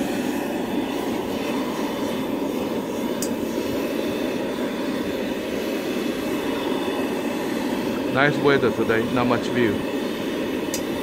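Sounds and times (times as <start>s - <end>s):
gas burner rushing: 0.0s - 11.0s.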